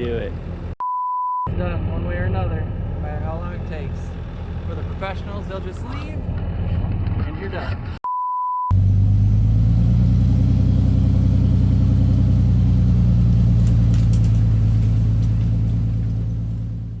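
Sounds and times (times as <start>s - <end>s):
diesel engine running steadily: 0.0s - 0.8s, 1.5s - 8.0s, 8.7s - 17.0s.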